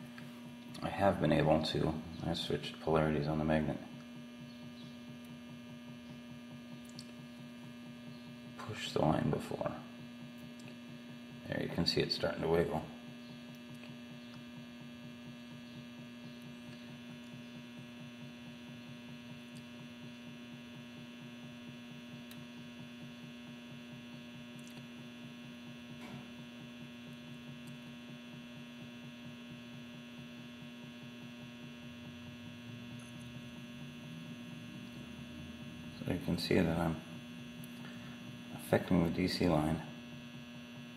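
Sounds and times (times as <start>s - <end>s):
battery charger humming: 3.4s - 40.9s.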